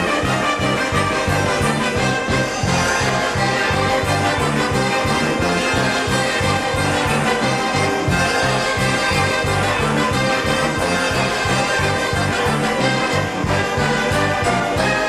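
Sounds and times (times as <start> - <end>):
pulsing bass notes: 0.0 - 15.0
wind orchestra playing: 0.0 - 15.0.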